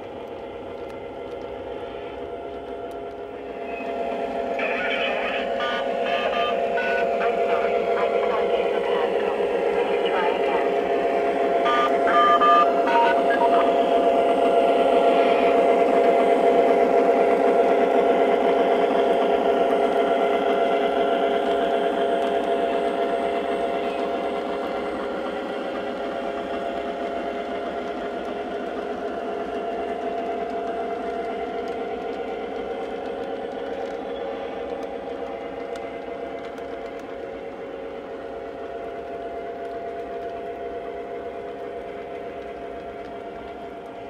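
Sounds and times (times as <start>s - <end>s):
model train diesel engine sound: 0.0s - 44.0s
model train rolling on track: 0.0s - 44.0s.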